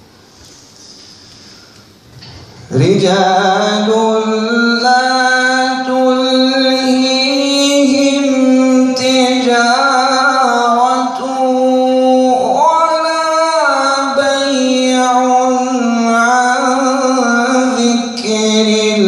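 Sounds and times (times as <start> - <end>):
man reciting melodically: 2.6 - 19.0.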